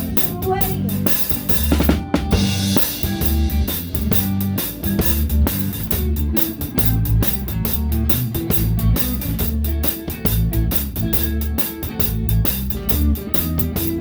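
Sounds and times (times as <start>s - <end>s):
kick drum and snare backbeat: 0.0s - 14.0s
live rock band playing: 0.0s - 14.0s.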